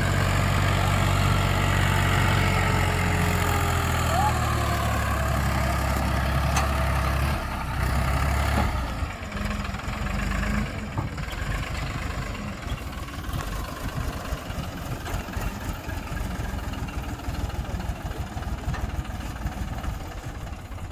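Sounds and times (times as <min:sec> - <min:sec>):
tractor diesel engine: 0:00.0 - 0:20.9.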